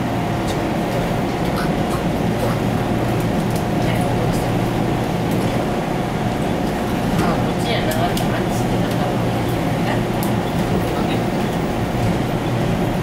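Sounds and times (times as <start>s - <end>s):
constant hum: 0.0s - 13.0s
train running rumble: 0.0s - 13.0s.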